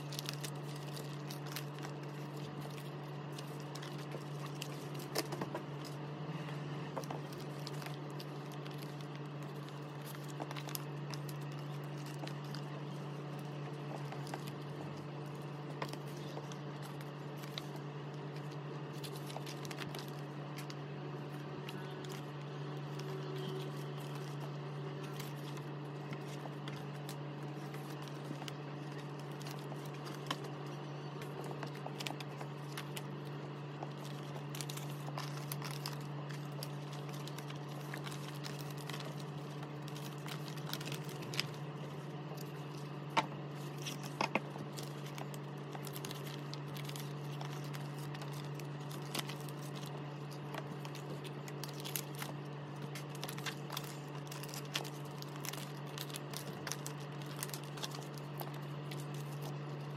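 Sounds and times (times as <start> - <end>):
plastic sleeves crinkling: 0.0 - 59.9
steady low hum: 0.0 - 59.9.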